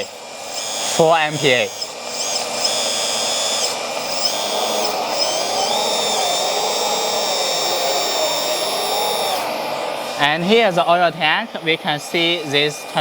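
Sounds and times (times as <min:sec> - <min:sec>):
cooling fan blowing: 0:00.0 - 0:13.0
hydraulic pump whine: 0:00.0 - 0:13.0.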